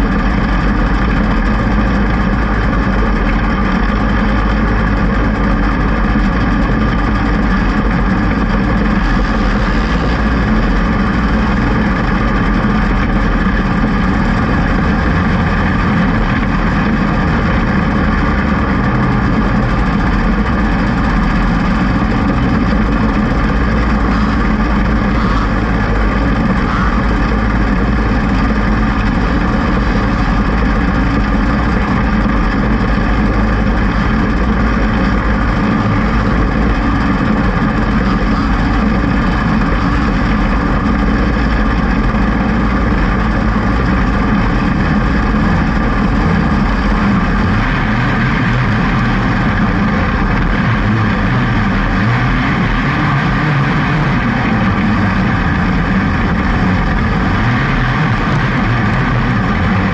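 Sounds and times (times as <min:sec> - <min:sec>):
kart engine running: 0:00.0 - 0:59.9
other kart engines: 0:00.0 - 0:59.9.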